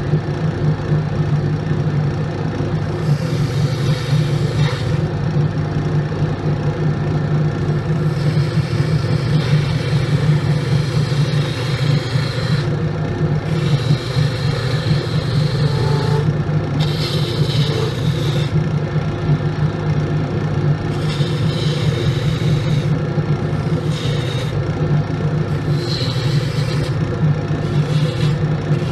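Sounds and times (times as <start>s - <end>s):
wood lathe motor humming: 2.7s - 28.9s
gouge cutting spinning wood: 2.9s - 5.5s, 6.9s - 19.5s, 20.5s - 28.9s.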